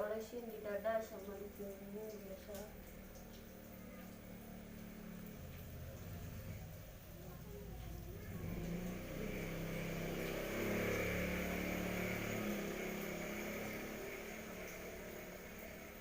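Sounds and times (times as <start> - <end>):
vehicle engine passing: 1.3 - 16.0.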